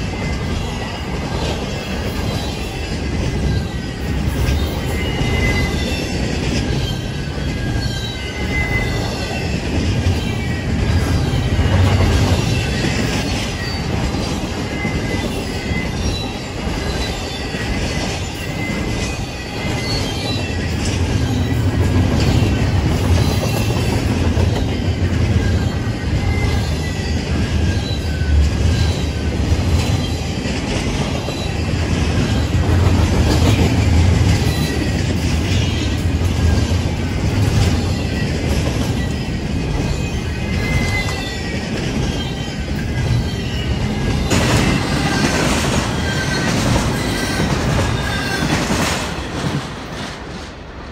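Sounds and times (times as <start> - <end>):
train wheels rumbling on rail: 0.0 - 50.9
wheel squeals: 0.1 - 49.7.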